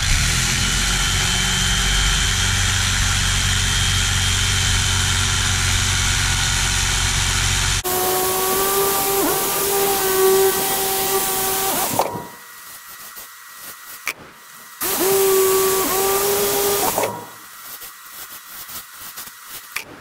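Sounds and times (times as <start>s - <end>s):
electric carving knife motor hum: 0.0s - 13.0s, 14.0s - 17.9s.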